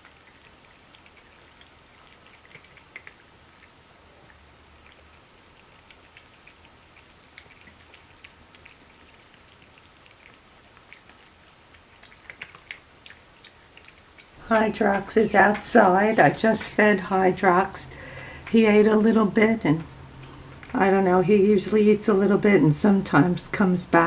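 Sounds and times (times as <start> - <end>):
cats eating from dishes: 0.0 - 24.0.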